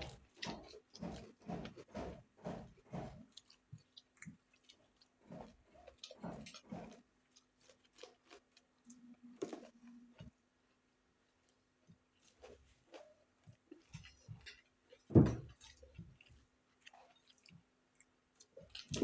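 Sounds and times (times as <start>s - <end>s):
wet chewing mouth sounds: 0.0s - 10.3s, 12.2s - 19.0s.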